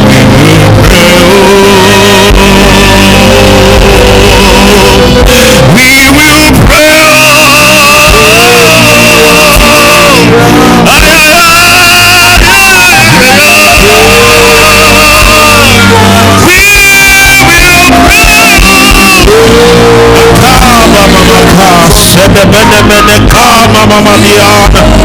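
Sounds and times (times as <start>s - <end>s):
low instrumental tones: 0.0s - 25.0s
person singing long wavering notes: 0.0s - 25.0s.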